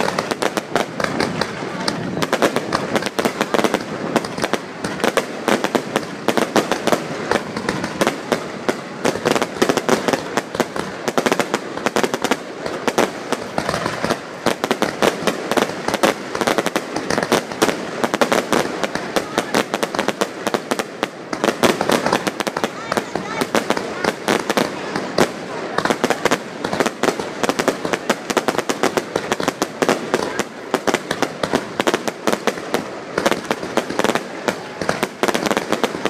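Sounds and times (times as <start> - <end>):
fireworks popping and crackling: 0.0 - 36.0.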